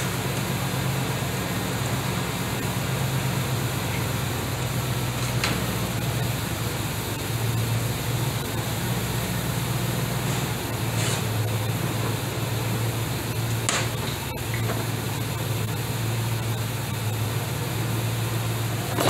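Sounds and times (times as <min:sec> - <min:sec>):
low machine hum with hiss: 0:00.0 - 0:19.0.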